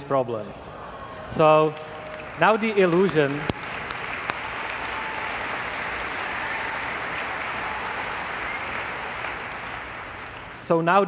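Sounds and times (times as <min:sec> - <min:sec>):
audience applauding: 0:01.0 - 0:10.8.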